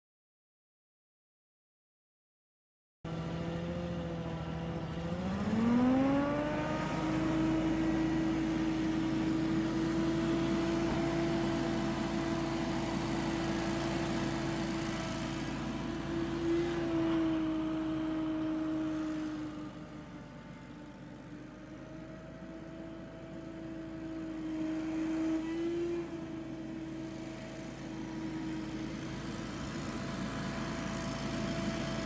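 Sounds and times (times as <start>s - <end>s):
leaf blower engine revving: 3.3s - 19.9s, 22.5s - 32.0s.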